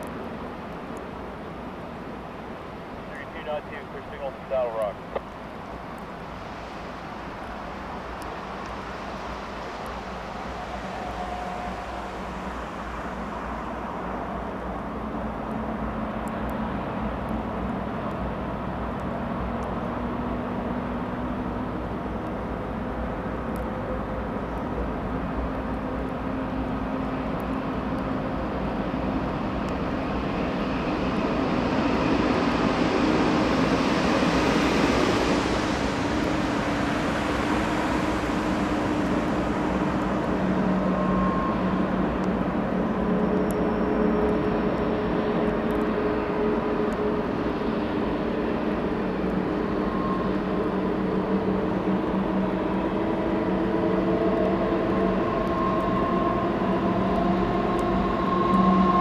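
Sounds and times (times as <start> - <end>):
diesel locomotive engine drone: 0.0 - 59.0
freight train rolling rumble: 0.0 - 59.0.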